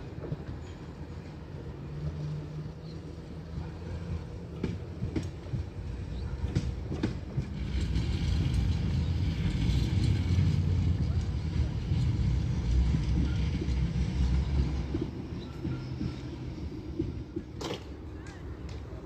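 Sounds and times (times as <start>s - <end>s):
tram rumbling on track: 0.0s - 19.0s.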